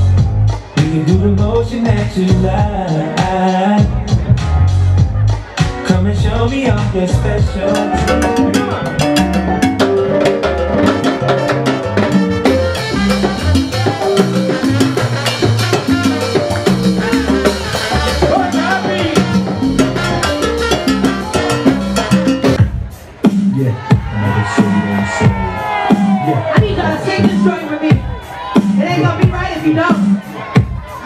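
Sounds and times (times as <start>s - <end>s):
bass line: 0.0s - 31.0s
congas and timbales rhythm: 0.0s - 31.0s.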